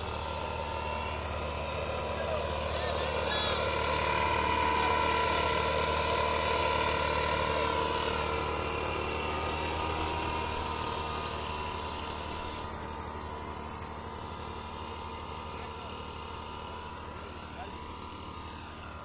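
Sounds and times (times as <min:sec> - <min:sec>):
blower rushing: 0:00.0 - 0:19.0
two-stroke engine running: 0:00.0 - 0:19.0.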